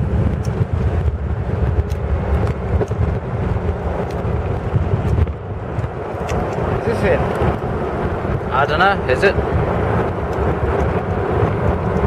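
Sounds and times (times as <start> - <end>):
car engine rumbling: 0.0 - 12.0
wind buffeting microphone: 0.0 - 12.0.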